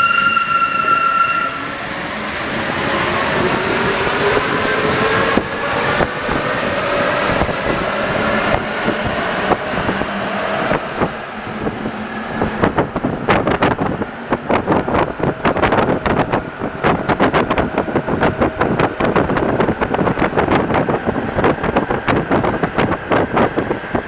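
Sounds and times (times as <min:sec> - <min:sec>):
metro train running: 0:00.0 - 0:24.0.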